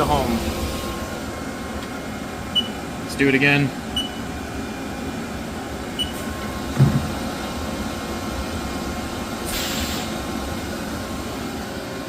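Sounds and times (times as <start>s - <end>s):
lathe running hum: 0.0s - 12.0s.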